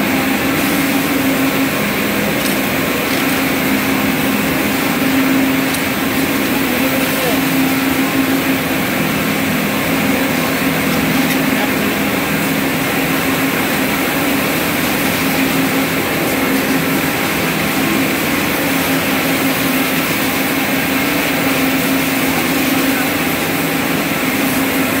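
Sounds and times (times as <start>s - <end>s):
spinning machinery drone: 0.0s - 25.0s.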